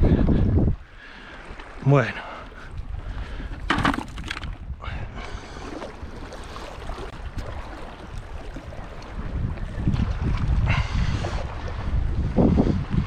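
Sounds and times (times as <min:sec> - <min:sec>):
wind buffeting microphone: 0:00.0 - 0:00.9, 0:02.5 - 0:13.0.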